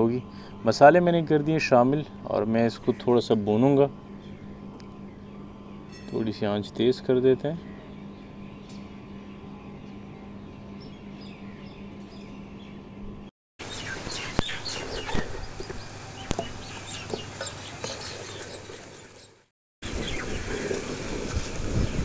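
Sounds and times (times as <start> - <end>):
steady low hum: 0.0 - 17.8
birds chirping: 0.0 - 20.8.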